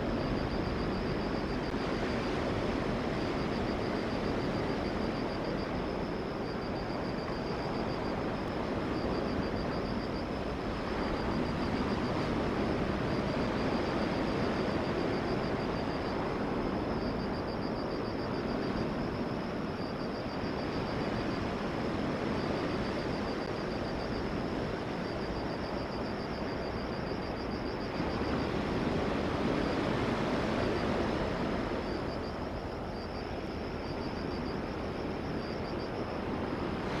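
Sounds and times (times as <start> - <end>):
wind: 0.0 - 37.0.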